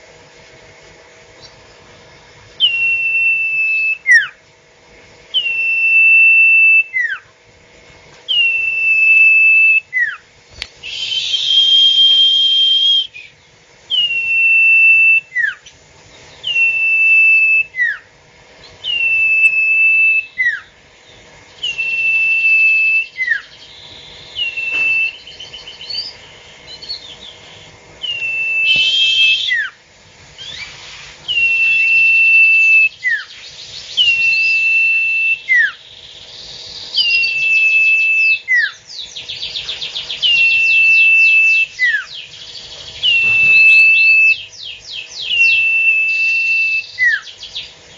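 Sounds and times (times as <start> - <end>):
bird whistling calls: 2.6 - 4.4, 5.3 - 7.3, 8.3 - 10.2, 10.8 - 29.8, 30.4 - 47.9.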